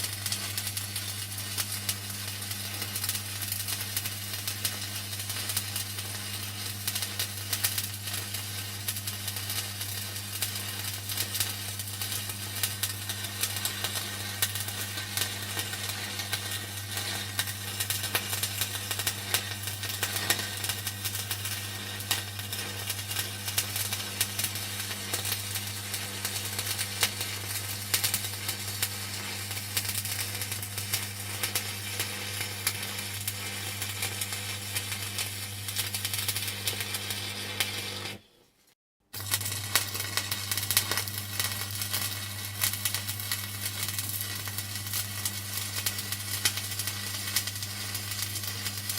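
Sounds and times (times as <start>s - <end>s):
welding arc crackling and sizzling: 0.0s - 38.2s, 39.1s - 48.9s.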